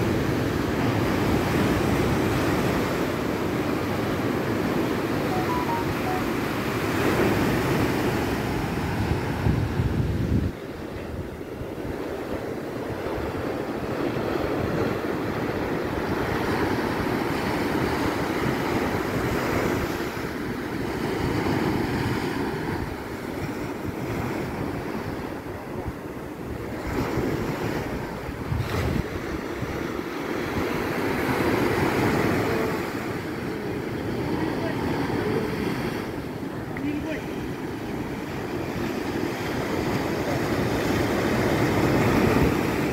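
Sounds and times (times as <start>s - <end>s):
sea waves washing: 0.0s - 42.9s
wind buffeting microphone: 7.4s - 42.9s.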